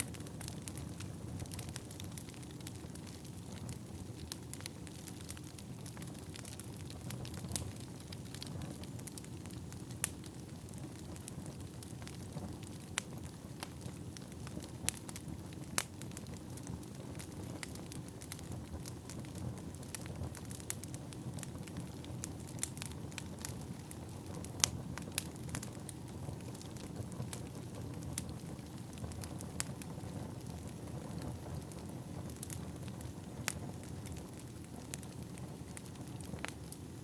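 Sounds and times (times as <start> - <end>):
fire rumbling: 0.0 - 37.0
firewood crackling and popping: 0.0 - 37.0.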